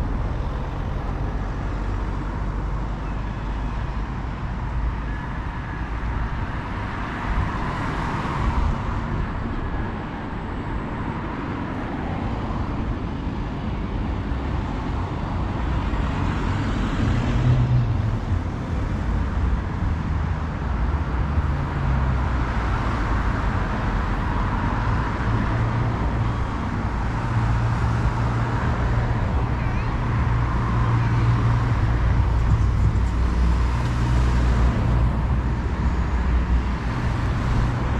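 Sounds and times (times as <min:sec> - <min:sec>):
cars passing: 0:00.0 - 0:37.9
wind rumble on microphone: 0:00.0 - 0:37.9.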